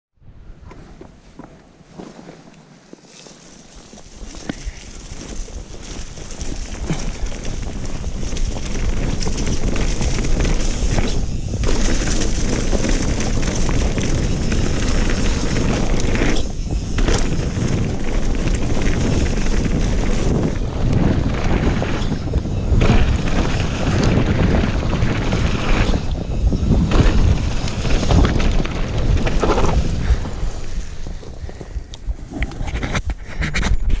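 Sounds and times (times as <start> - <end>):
bike rattling over dirt trail: 0.6 - 34.0
wind on microphone: 3.8 - 34.0.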